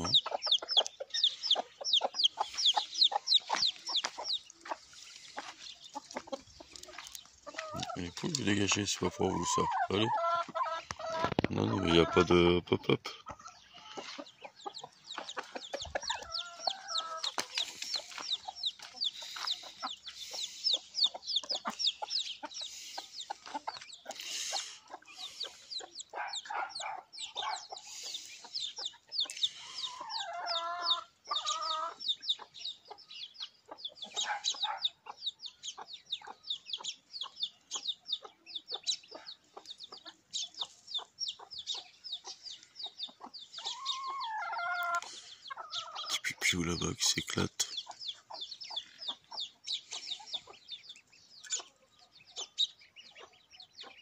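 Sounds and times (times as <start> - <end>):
chicks peeping: 0.0 - 54.0
hens clucking: 0.0 - 54.0.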